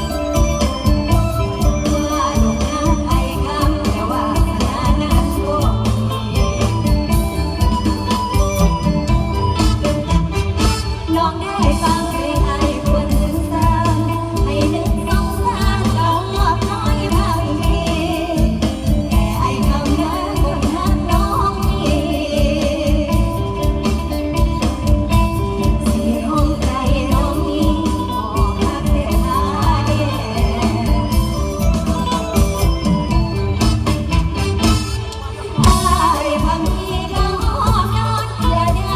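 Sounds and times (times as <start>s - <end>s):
live band music: 0.0s - 38.9s.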